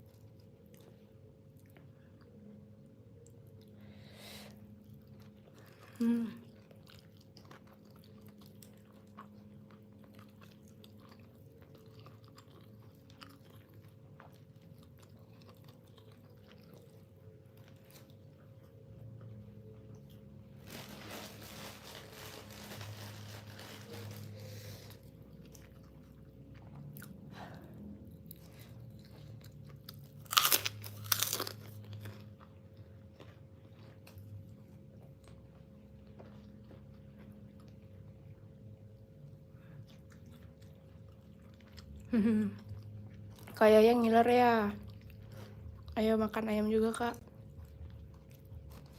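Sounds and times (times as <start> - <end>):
chewing and crunching food: 0.0 - 48.9.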